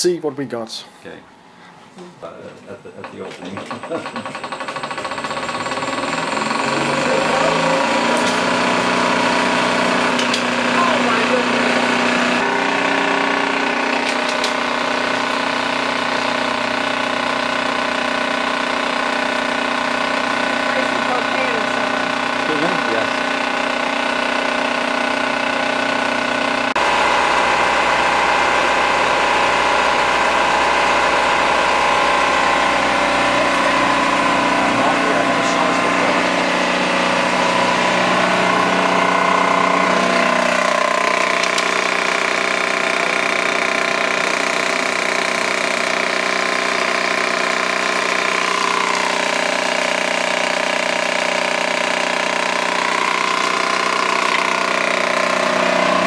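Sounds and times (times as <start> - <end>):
film projector mechanical hum: 1.0 - 56.0.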